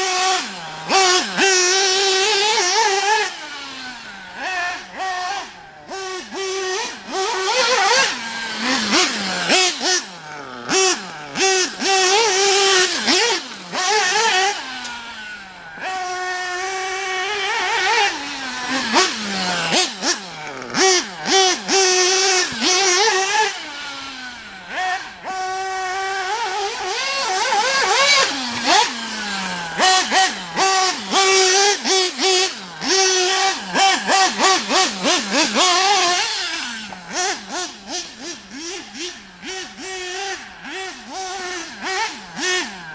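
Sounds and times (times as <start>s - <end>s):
rc car engine screaming: 0.0s - 42.9s.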